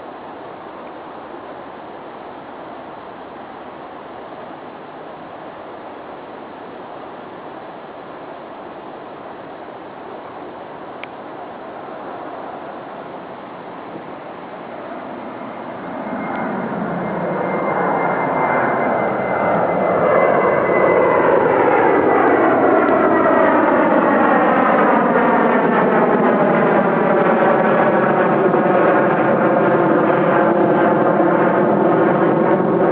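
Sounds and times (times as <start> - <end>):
high engine whine: 0.0 - 32.9
jet engines at takeoff: 0.0 - 32.9.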